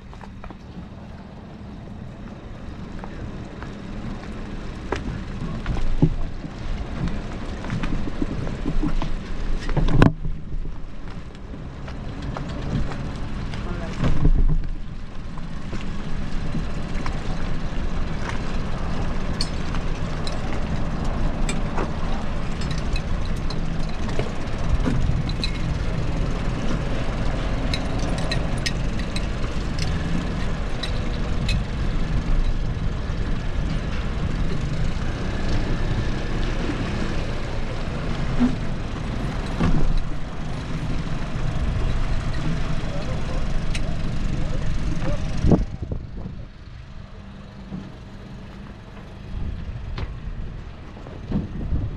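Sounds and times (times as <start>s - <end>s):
boat engine running: 0.0s - 51.9s.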